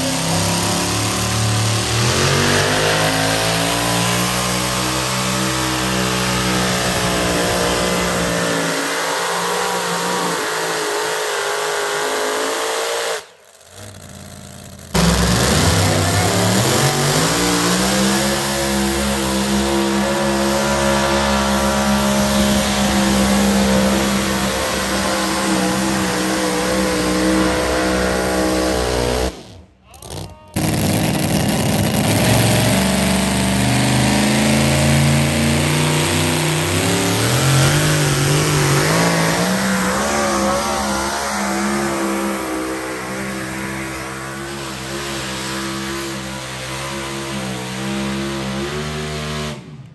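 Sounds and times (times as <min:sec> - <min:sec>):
pickup truck engines revving high: 0:00.0 - 0:49.9.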